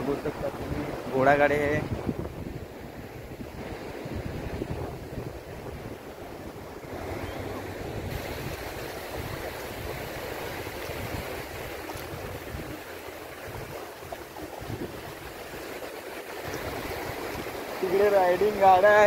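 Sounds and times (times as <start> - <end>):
sea surf washing on beach: 0.0 - 19.0
wind buffeting microphone: 0.0 - 19.0.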